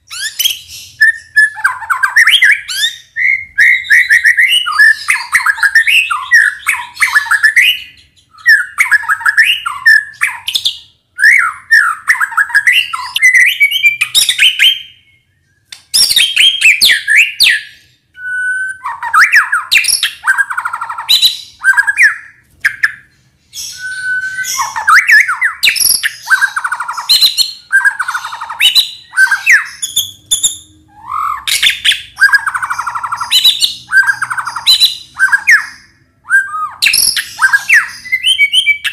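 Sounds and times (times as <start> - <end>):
bird singing whistles and chatter: 0.1 - 38.9.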